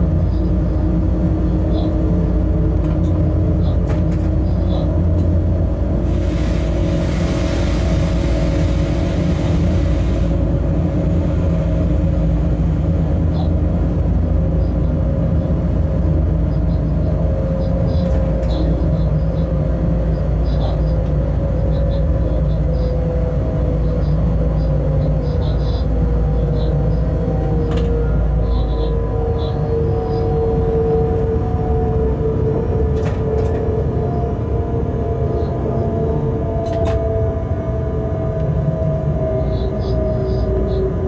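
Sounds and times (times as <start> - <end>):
train running gear rumbling: 0.0 - 41.0.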